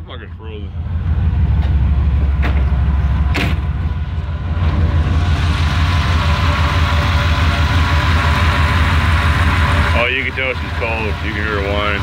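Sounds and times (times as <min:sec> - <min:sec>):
cold engine idling whine: 0:00.0 - 0:12.0.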